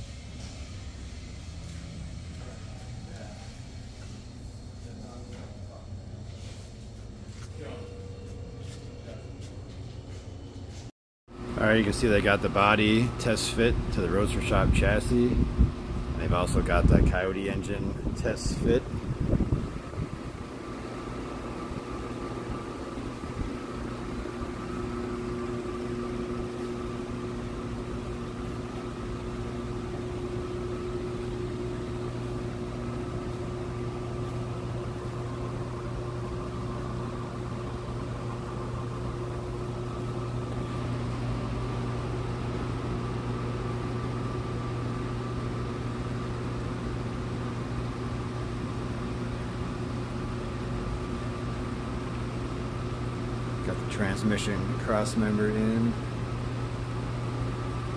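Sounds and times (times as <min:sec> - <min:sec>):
shop machine humming: 0:00.0 - 0:57.9.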